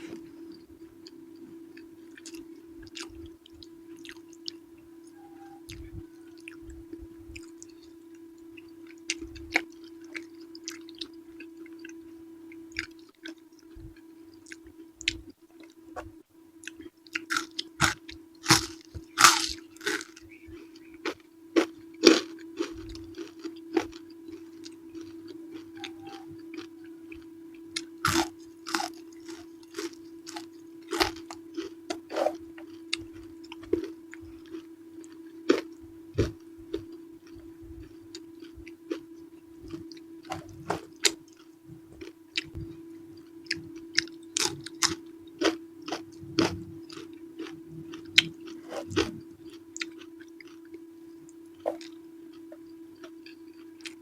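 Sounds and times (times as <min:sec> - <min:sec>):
person chewing: 0:00.0 - 0:12.0, 0:12.7 - 0:15.8, 0:16.6 - 0:54.0.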